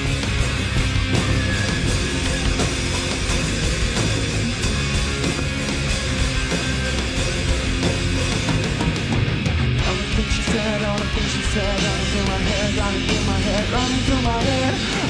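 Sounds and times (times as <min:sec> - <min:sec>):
rock band playing instrumental: 0:00.0 - 0:15.0.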